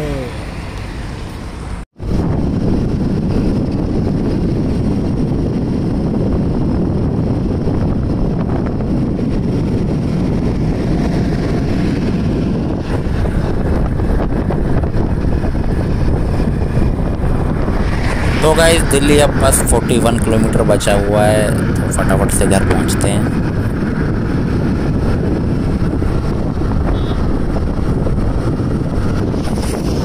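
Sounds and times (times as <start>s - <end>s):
road and scooter rumble: 0.0s - 30.0s
wind buffeting microphone: 0.4s - 30.0s.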